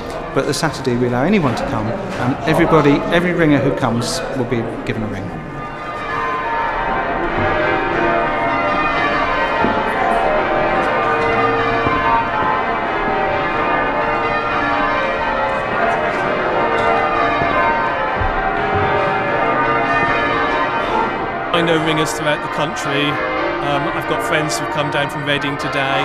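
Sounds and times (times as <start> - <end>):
church bells change ringing: 0.0 - 26.0.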